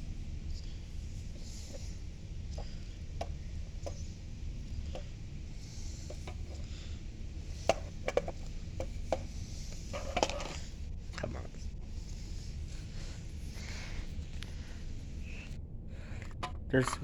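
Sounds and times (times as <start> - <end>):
low steady background rumble: 0.0 - 17.0.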